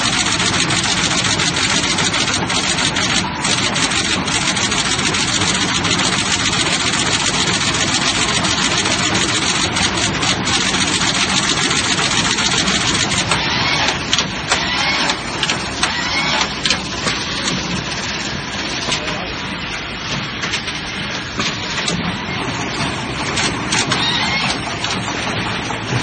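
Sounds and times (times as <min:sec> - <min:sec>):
machine mechanical clatter: 0:00.0 - 0:26.0.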